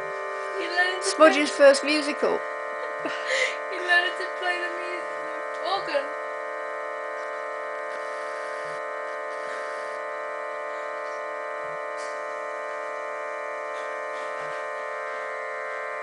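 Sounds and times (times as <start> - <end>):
electronic organ chord: 0.0 - 16.0.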